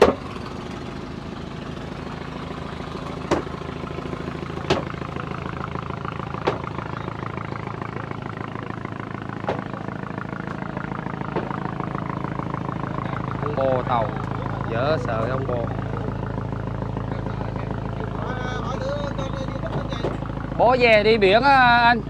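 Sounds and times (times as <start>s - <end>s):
sharp engine knocks: 0.0s - 18.3s, 19.2s - 21.9s
engine idling: 0.0s - 22.0s.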